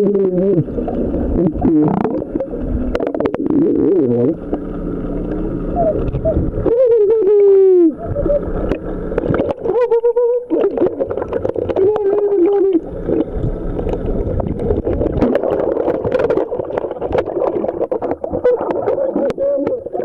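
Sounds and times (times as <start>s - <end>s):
bubbling: 0.0s - 20.0s
muffled pitched sounds: 0.0s - 20.0s
water sloshing and gurgling underwater: 0.0s - 20.0s.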